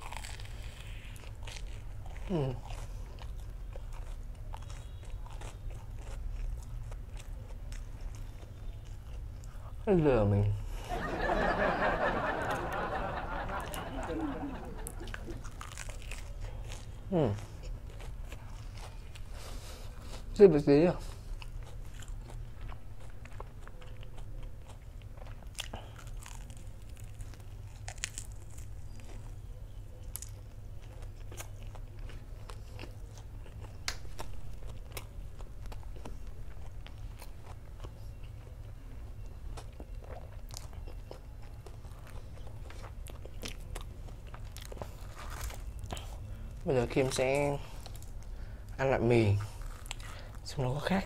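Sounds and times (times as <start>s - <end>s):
chewing crispy fried food: 0.0s - 51.0s
steady low hum: 0.0s - 51.0s.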